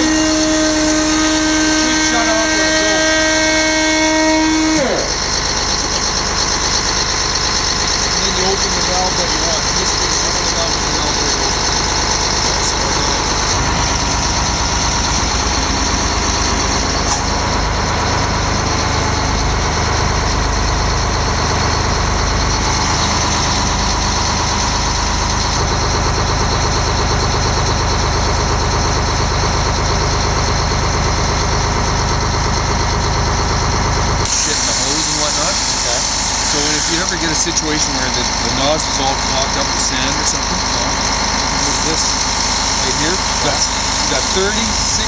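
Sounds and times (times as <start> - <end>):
fire truck engine running: 0.0 - 45.0.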